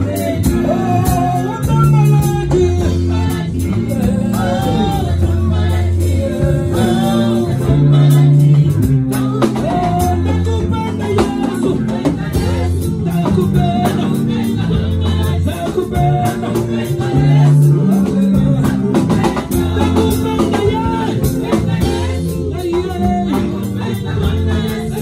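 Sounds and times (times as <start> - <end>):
drum kit beat: 0.0 - 25.0
electric bass: 0.0 - 25.0
group of singers: 0.0 - 25.0
guitar: 0.0 - 25.0.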